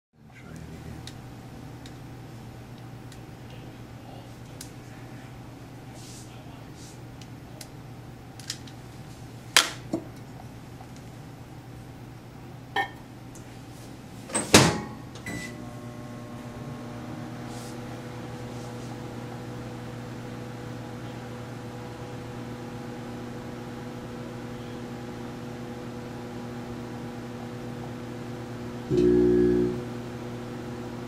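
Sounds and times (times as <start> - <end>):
microwave oven humming: 0.2 - 31.0.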